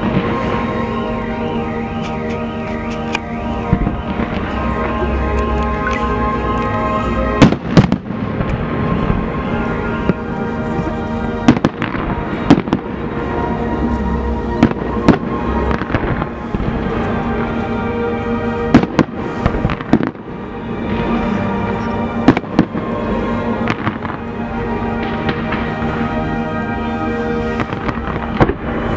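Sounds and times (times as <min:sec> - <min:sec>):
fireworks bangs and crackles: 0:00.0 - 0:13.7, 0:14.5 - 0:17.7, 0:18.6 - 0:26.2, 0:27.6 - 0:28.9.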